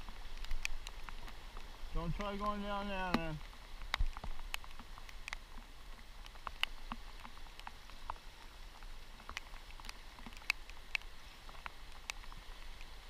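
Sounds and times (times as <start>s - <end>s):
faint river rapids: 0.0s - 13.0s
raindrops ticking on housing: 0.0s - 13.0s.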